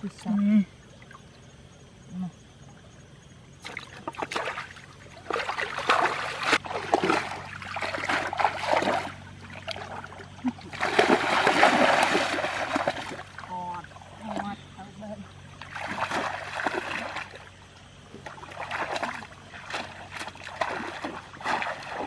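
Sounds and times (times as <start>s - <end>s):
muddy water splashing: 3.6s - 22.0s.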